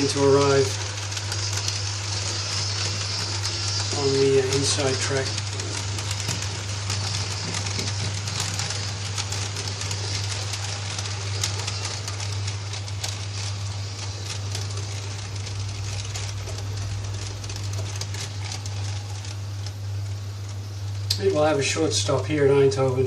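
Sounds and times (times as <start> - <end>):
model train wheels ticking: 0.0 - 19.4
low electrical hum: 0.0 - 23.0.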